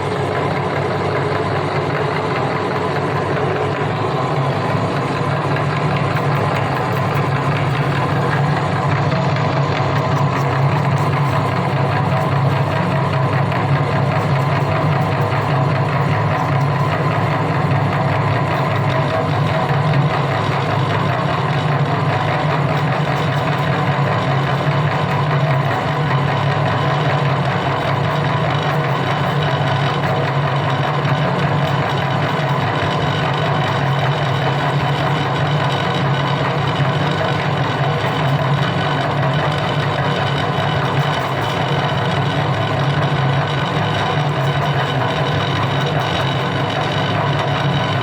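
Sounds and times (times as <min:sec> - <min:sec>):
meat grinder motor humming: 0:00.0 - 0:48.0.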